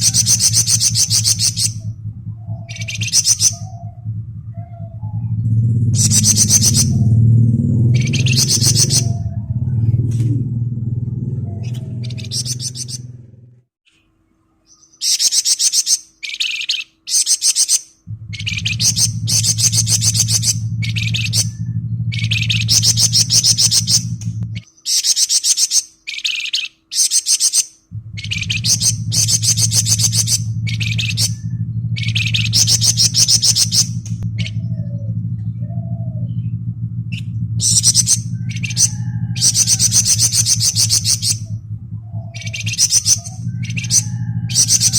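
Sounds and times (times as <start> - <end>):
songbird buzzing trills: 0.0 - 13.5, 14.7 - 44.9
low steady hum: 0.0 - 17.2, 17.8 - 24.8, 27.7 - 44.9.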